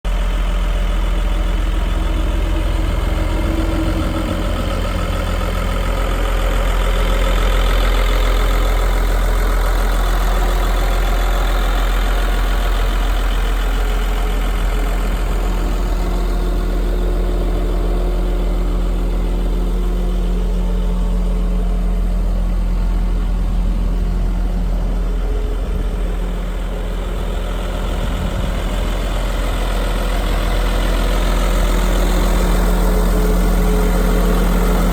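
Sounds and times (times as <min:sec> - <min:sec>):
bulldozer diesel engine idling: 0:00.0 - 0:34.9.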